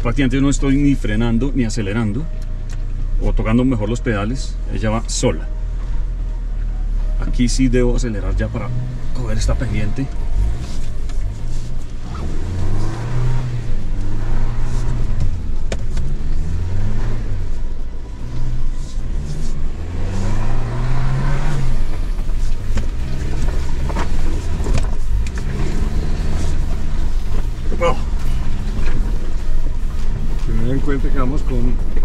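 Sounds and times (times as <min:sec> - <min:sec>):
car engine revving under load: 0:00.0 - 0:32.0.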